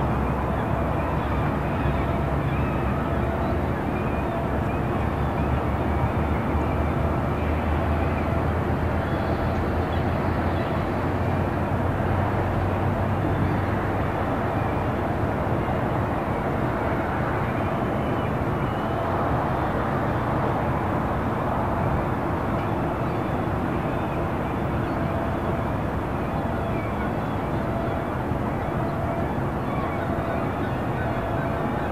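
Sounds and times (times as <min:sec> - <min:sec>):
distant road traffic rumble: 0:00.0 - 0:31.9.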